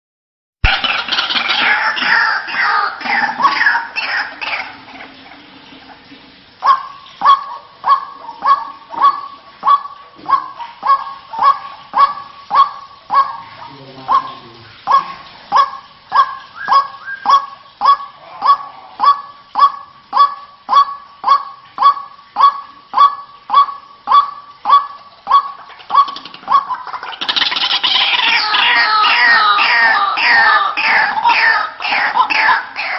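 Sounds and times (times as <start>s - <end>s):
waterhen harsh calls: 0.6s - 32.9s.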